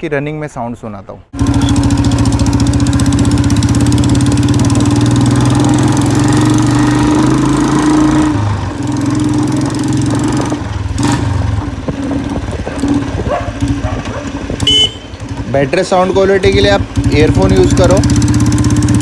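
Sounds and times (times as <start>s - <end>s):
motorcycle engine exhaust beat: 1.4s - 7.7s, 8.8s - 19.0s.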